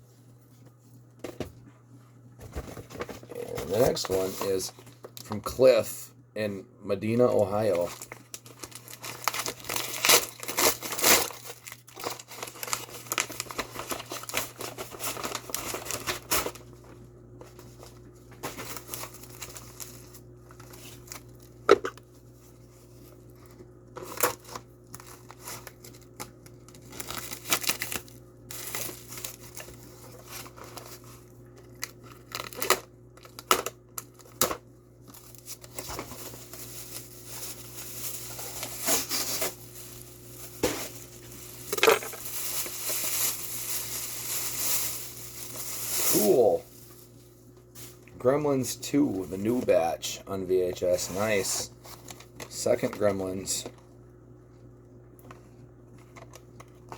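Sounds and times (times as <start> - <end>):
packaging crinkling and tearing: 2.9 - 5.3, 7.5 - 50.0, 50.7 - 53.5.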